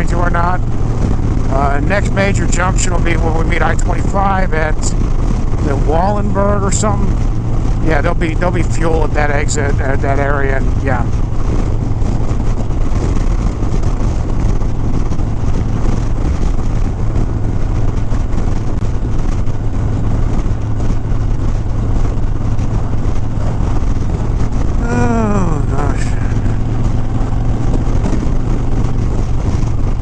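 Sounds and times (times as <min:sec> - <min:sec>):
motorcycle engine hum: 0:00.0 - 0:30.0
wind and road noise: 0:00.0 - 0:30.0.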